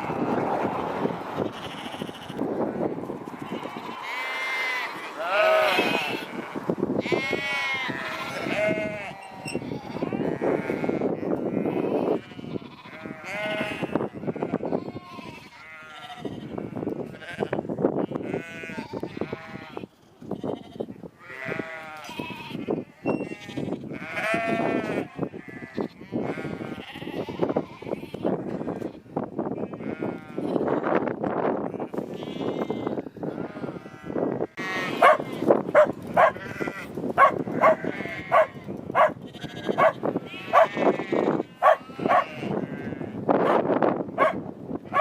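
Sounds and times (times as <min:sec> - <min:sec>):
sheep bleating: 0:01.4 - 0:02.4, 0:03.4 - 0:29.0, 0:31.7 - 0:43.3.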